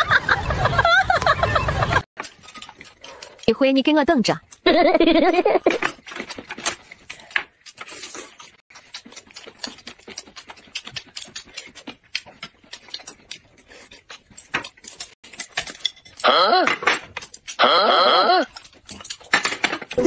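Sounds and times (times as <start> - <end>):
people chewing and lip smacking: 2.2 - 4.7, 5.6 - 20.0.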